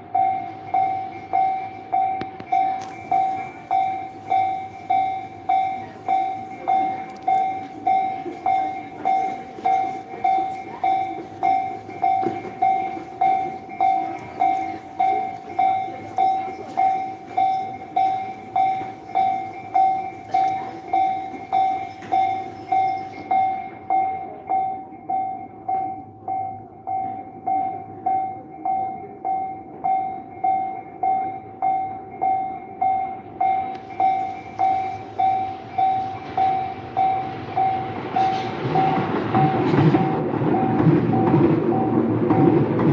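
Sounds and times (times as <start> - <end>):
level-crossing warning bell: 0.0 - 42.9
passing train: 0.0 - 42.9.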